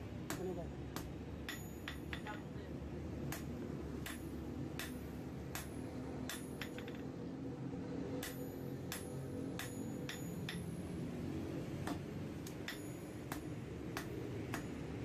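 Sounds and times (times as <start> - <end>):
steady low hum: 0.0 - 15.0
hammer clanging on steel: 0.2 - 2.5, 3.3 - 7.2, 8.2 - 11.0, 11.8 - 15.0.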